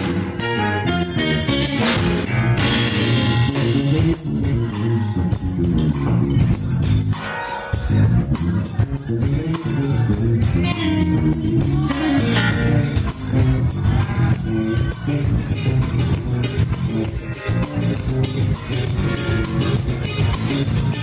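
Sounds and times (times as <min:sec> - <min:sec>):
bass: 0:00.0 - 0:21.0
drum kit: 0:00.0 - 0:21.0
electric guitar: 0:00.0 - 0:21.0
hand percussion: 0:00.0 - 0:21.0
jingling tambourine: 0:00.0 - 0:21.0
keyboard: 0:00.0 - 0:21.0.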